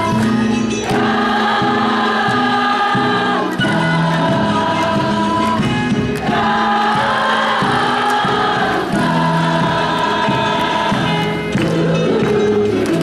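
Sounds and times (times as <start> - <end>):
choir singing: 0.8 - 13.0.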